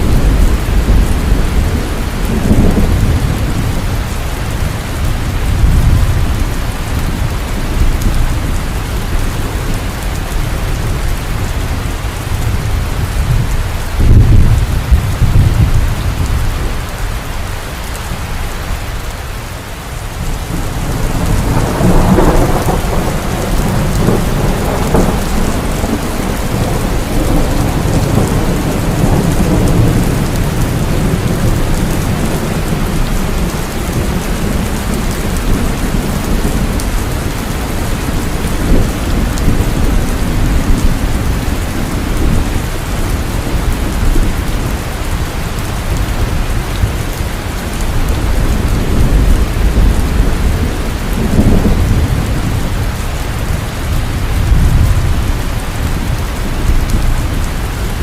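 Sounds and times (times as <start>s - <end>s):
heavy rain: 0.0s - 58.0s
low thunder rumbling: 0.0s - 58.0s.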